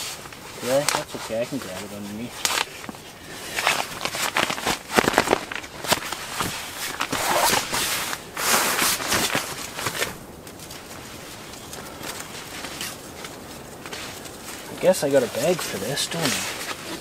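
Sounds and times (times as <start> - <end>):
nylon sleeping bags rustling: 0.0 - 17.0.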